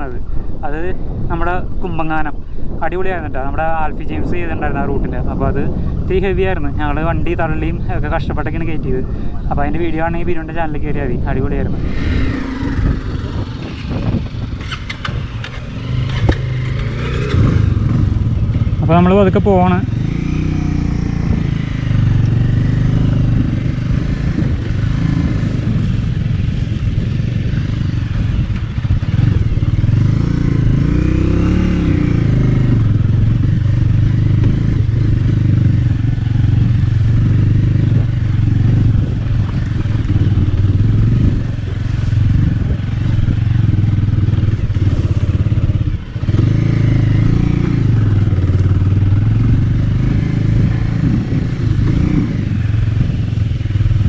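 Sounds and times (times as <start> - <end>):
motorcycle engine revving: 9.6 - 54.0.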